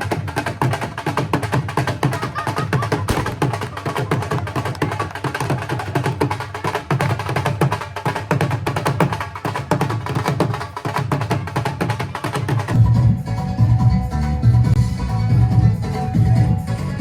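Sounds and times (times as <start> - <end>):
background music with rapid percussion: 0.0 - 17.0.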